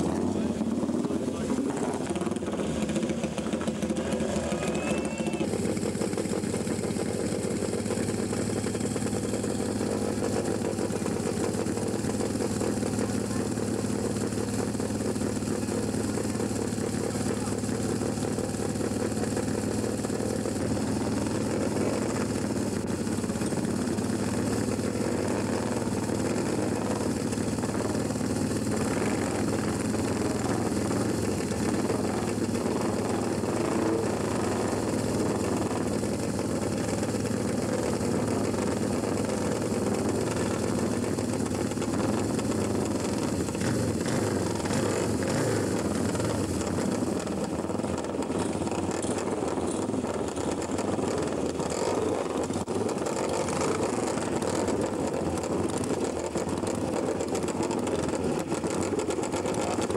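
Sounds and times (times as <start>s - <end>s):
motorcycle engines idling: 0.0s - 59.9s.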